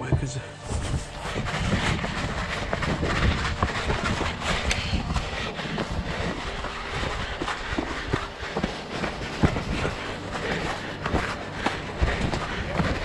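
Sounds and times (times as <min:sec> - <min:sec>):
running footsteps on leaf litter: 0:00.0 - 0:13.0
wind buffeting microphone: 0:00.6 - 0:13.0.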